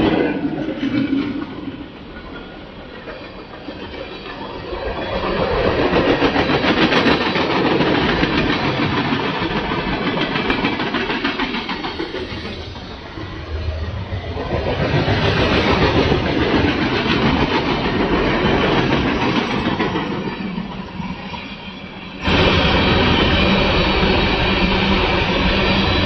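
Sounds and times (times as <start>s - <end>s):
train wheels clicking over rails: 0.0s - 26.0s.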